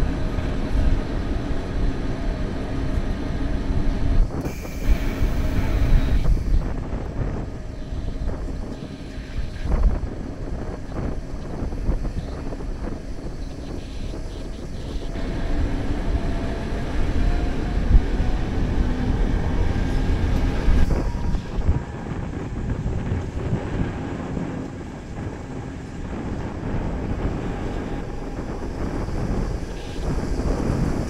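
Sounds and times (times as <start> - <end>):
train running gear rumbling: 0.0 - 31.0
wind buffeting microphone: 0.0 - 31.0.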